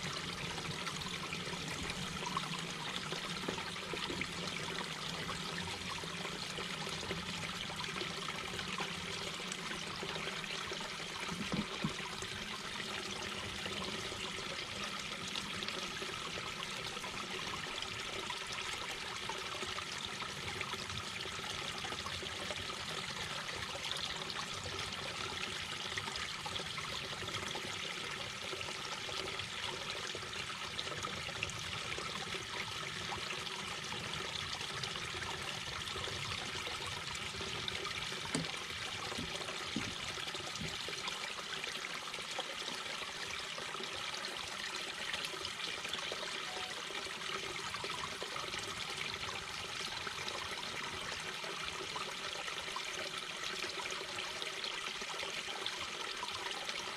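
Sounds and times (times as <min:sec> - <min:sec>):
brook babbling over stones: 0:00.0 - 0:56.9.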